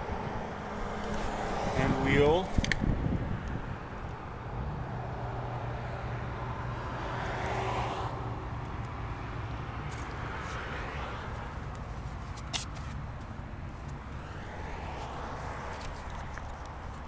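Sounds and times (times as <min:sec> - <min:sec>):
vehicle passing by: 0:00.0 - 0:11.8, 0:13.3 - 0:17.0.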